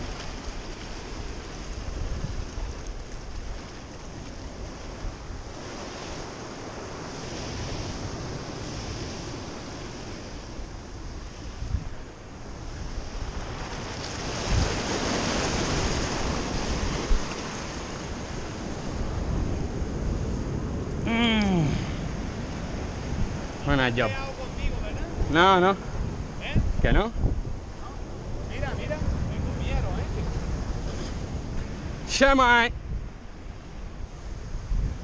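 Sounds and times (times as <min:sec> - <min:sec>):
wind buffeting microphone: 0:00.0 - 0:32.1, 0:32.7 - 0:35.0
surf breaking on rocky shore: 0:00.0 - 0:35.0.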